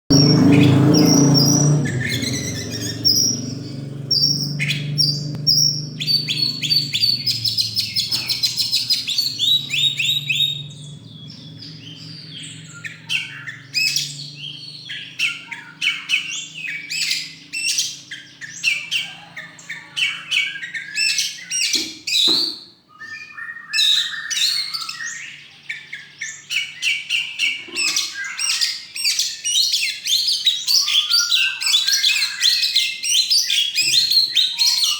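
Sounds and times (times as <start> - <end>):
songbird chirps and trills: 0.1 - 34.9.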